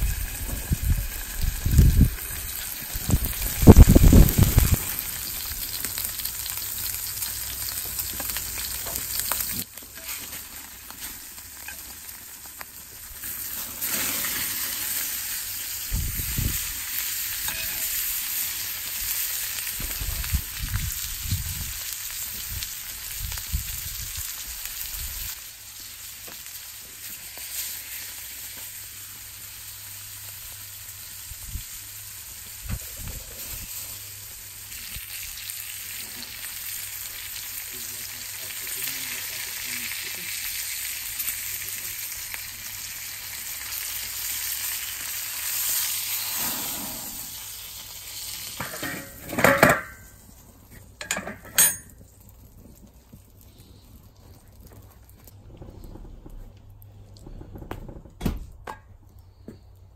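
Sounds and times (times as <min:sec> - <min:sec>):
meat sizzling in a skillet: 0:00.0 - 0:53.9.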